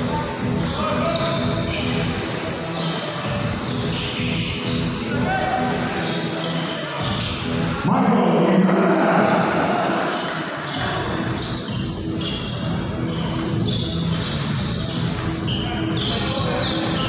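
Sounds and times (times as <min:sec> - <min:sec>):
sneaker squeaks: 0:00.2 - 0:07.7, 0:09.4 - 0:17.0.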